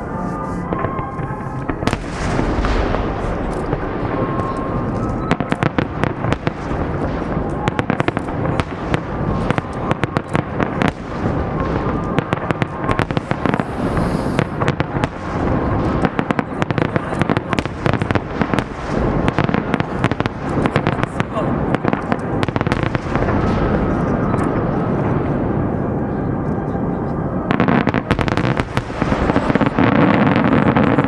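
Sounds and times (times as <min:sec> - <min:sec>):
fireworks bursting and crackling: 0:00.0 - 0:31.0
low fireworks booms: 0:00.0 - 0:31.0.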